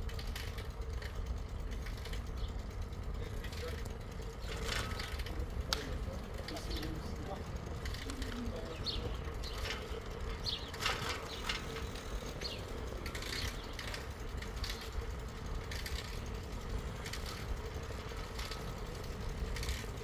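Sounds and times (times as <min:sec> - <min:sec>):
bicycle tyres rumbling: 0:00.0 - 0:20.0
bike clicks and rattles: 0:00.0 - 0:20.0.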